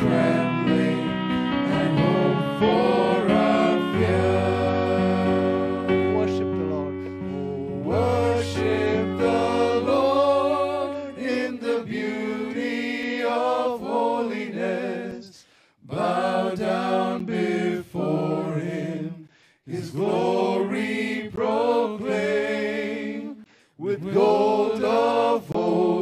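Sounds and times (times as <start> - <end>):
voices singing a worship song: 0.0 - 26.0.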